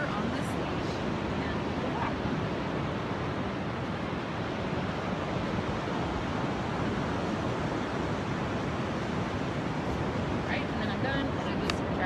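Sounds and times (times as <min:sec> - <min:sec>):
ocean surf breaking: 0:00.0 - 0:12.0
wind noise on microphone: 0:00.0 - 0:12.0.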